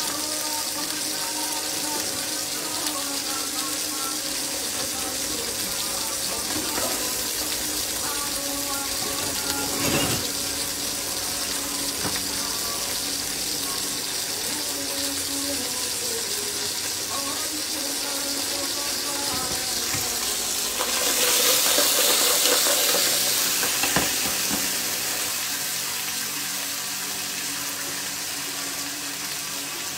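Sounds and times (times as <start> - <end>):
food sizzling in pans: 0.0 - 29.9.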